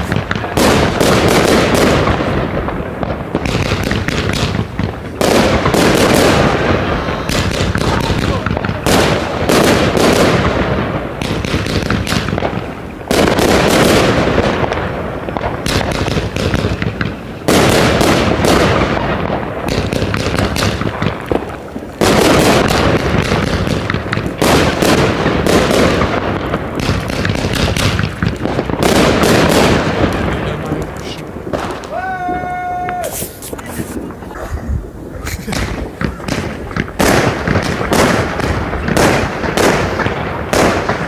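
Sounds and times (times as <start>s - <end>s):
fireworks launching and bursting: 0.0s - 41.0s.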